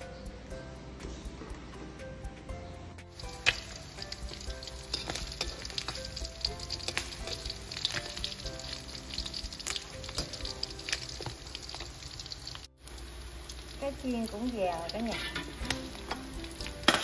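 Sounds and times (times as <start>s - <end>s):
fish sizzling in oil: 3.1s - 17.0s
oil crackling and popping: 3.1s - 17.0s.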